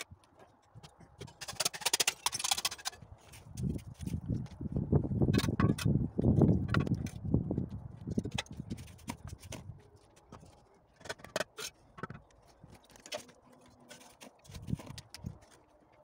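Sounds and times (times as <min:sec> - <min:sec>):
light knocks clicks and scrapes: 0:00.0 - 0:04.7, 0:05.3 - 0:16.0.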